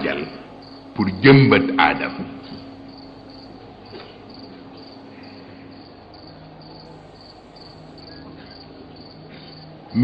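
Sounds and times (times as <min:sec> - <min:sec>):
cricket chirping: 0:00.0 - 0:10.0
low electrical hum: 0:00.0 - 0:10.0.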